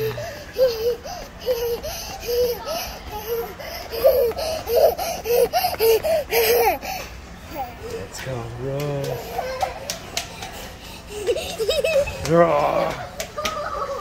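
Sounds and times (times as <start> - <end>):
girl laughing: 0.0 - 7.0, 9.3 - 14.0.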